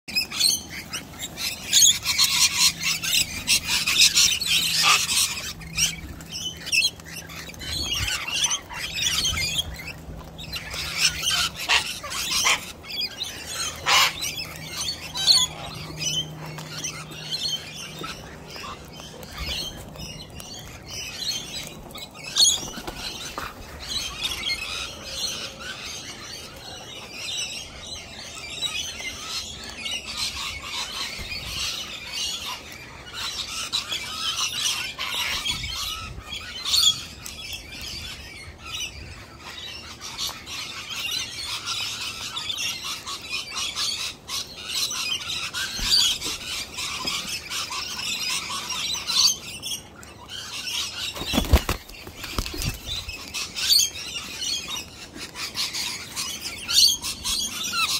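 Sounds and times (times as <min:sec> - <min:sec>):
parrots chattering and squawking: 0:00.1 - 0:57.9.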